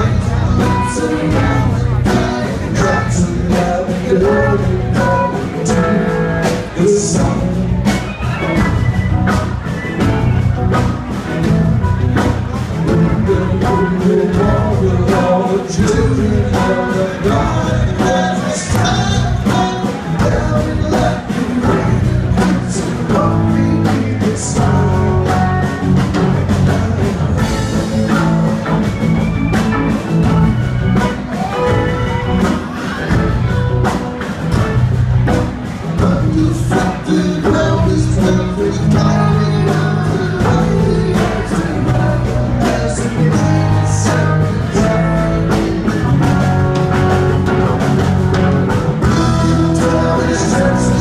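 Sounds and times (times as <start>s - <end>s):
bass guitar: 0.0s - 51.0s
drum kit beat: 0.0s - 51.0s
electric guitars: 0.0s - 51.0s
keyboards: 0.0s - 51.0s.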